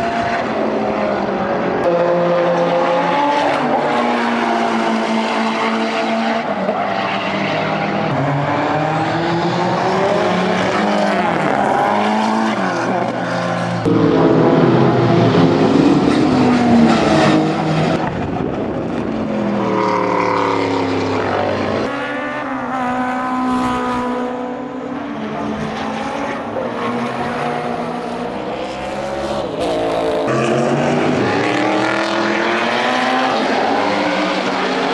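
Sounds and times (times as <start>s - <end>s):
race car engine revving: 0.0s - 34.9s.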